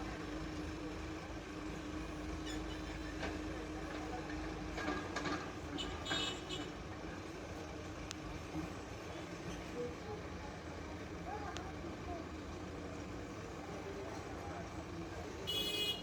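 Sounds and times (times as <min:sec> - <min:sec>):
backhoe diesel engine running: 0:00.0 - 0:15.9.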